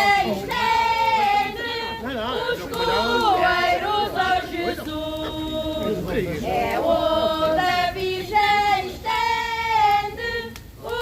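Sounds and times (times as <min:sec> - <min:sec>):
group singing a carol: 0:00.0 - 0:11.0
people talking: 0:00.0 - 0:11.0.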